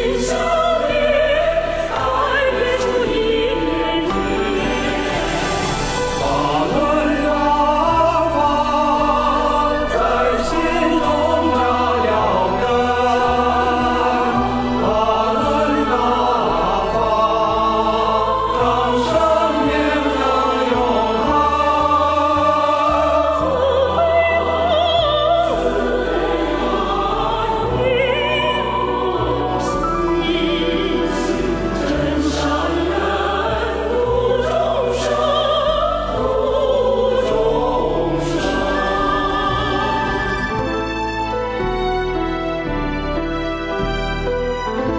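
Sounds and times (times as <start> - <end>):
choir singing: 0.0 - 42.2
orchestral accompaniment: 0.0 - 44.9.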